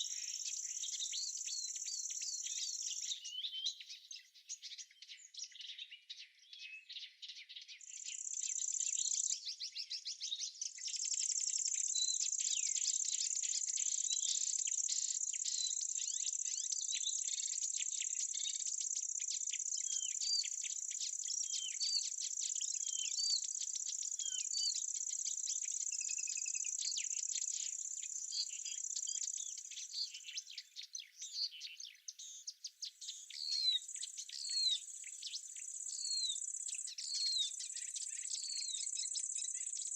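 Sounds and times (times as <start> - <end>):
birds chirping: 0.0 - 13.4, 14.3 - 39.9.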